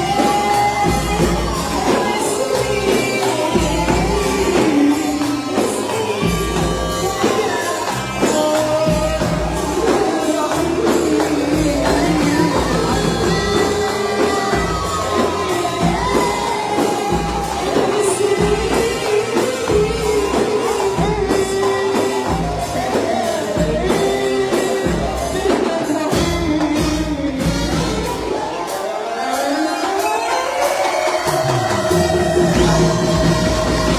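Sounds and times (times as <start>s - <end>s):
band with bass beat: 0.0s - 28.8s, 31.2s - 33.9s.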